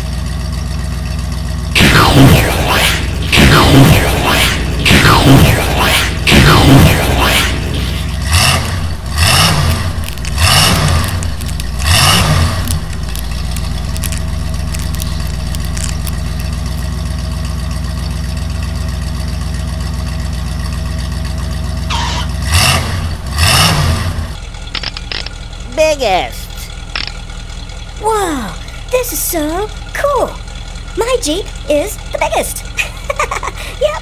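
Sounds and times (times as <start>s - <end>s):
truck engine revving and idling: 0.0s - 34.0s.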